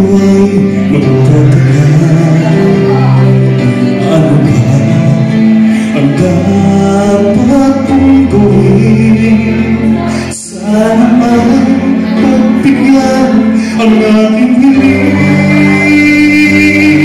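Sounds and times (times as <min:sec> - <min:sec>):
instrumental backing music: 0:00.0 - 0:17.0
man singing into microphone: 0:00.0 - 0:17.0.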